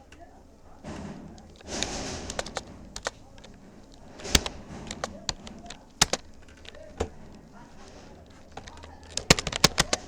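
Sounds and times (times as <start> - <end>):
keyboard keystroke clicks: 0.0 - 10.0.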